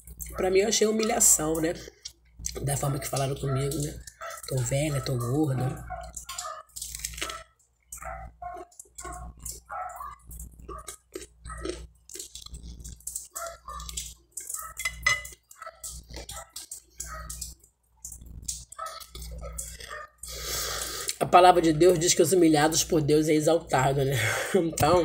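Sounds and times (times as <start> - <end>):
close chewing and mouth sounds: 0.0 - 22.9.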